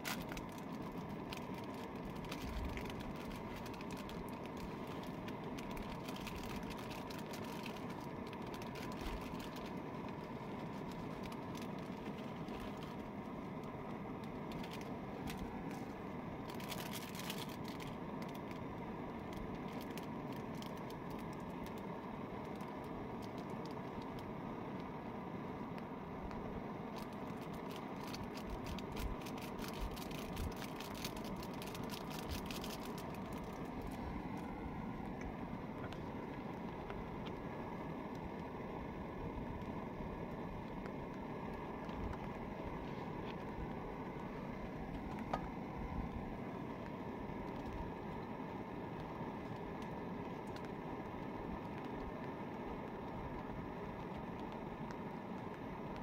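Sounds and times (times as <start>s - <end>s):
gas camping stove burning: 0.0s - 56.0s.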